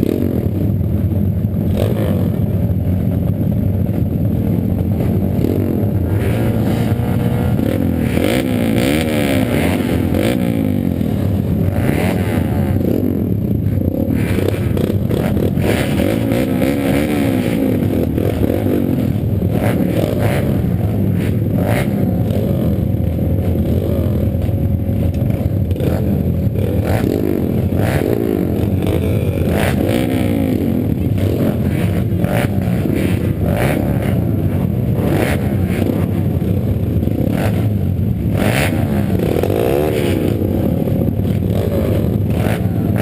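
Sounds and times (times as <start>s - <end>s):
small engines revving: 4.8s - 43.0s.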